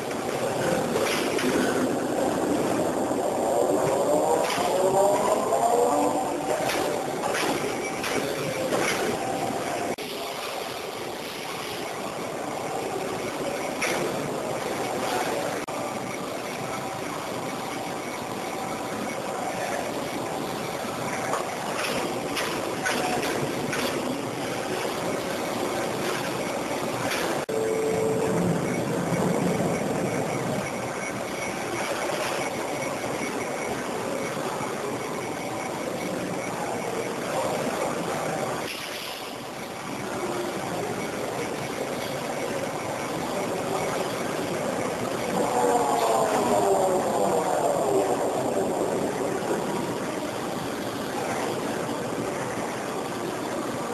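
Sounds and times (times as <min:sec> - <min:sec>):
lathe running: 0:00.0 - 0:53.9.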